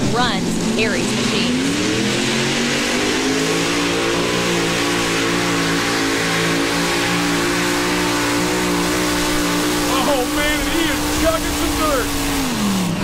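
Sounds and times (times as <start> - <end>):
engines at full throttle: 0.0 - 13.0.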